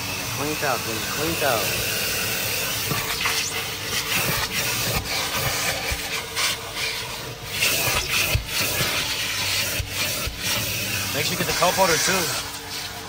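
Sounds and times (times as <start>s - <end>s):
vacuum cleaner running: 0.0s - 13.0s
nozzle scraping car interior: 0.5s - 13.0s.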